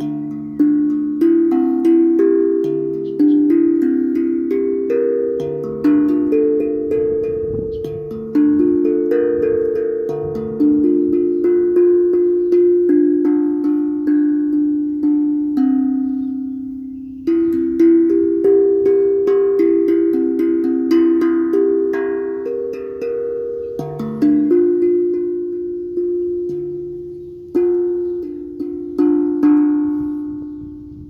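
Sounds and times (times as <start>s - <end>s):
struck notes ringing melody: 0.0s - 31.0s.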